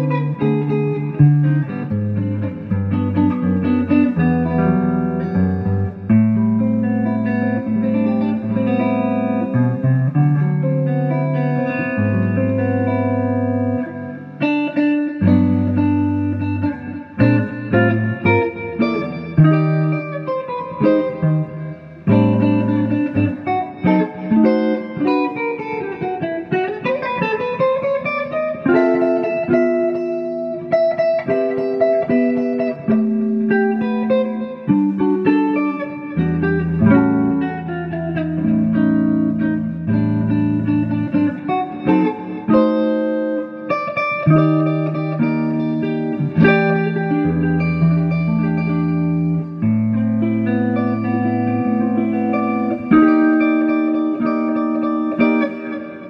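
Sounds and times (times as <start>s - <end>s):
electric guitar jazz ballad: 0.0s - 56.0s.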